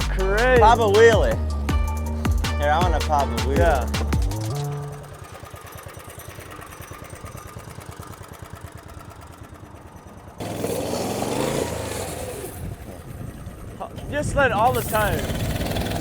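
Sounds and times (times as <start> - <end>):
small gas engine idling and revving: 0.0 - 16.0.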